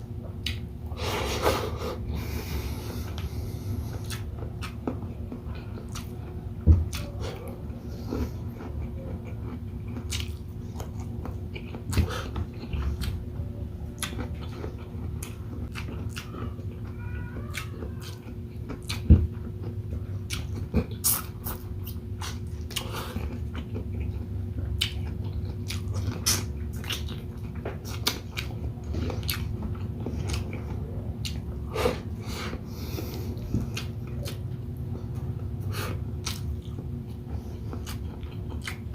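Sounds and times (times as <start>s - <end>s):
steady low hum: 0.0s - 38.9s
close-miked chewing and lip-smacking: 0.2s - 0.8s, 3.0s - 38.9s.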